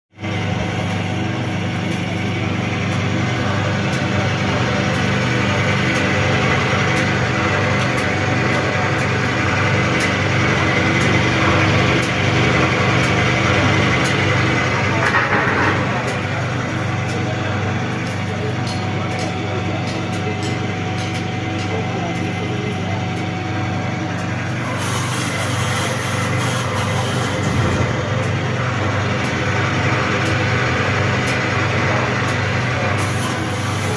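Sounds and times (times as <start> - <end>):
mixer machine motor hum: 0.2 - 33.9.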